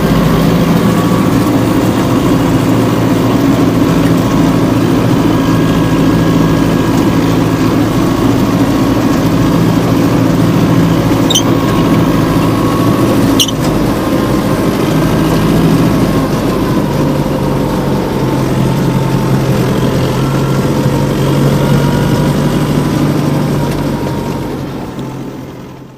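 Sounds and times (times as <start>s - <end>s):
small tractor engine running: 0.0s - 25.9s.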